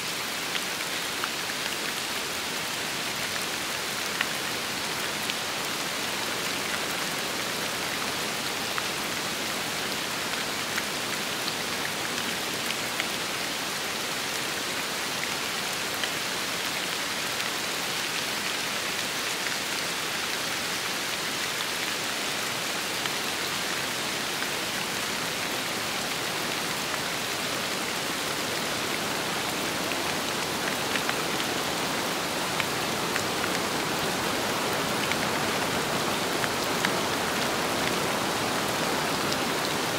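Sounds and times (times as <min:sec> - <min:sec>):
rain falling: 0:00.0 - 0:39.9
wind: 0:00.0 - 0:39.9.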